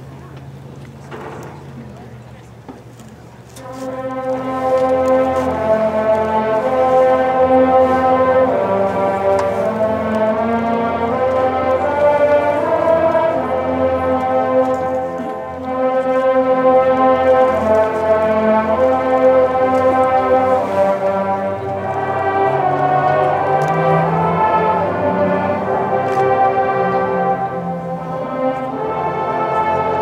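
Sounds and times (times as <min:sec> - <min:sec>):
brass marching bands playing chords: 0:02.9 - 0:30.0.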